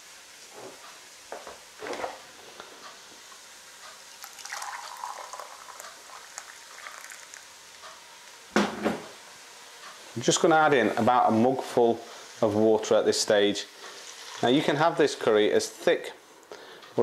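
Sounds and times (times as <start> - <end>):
vegetables sizzling in a pot: 0.0 - 16.0.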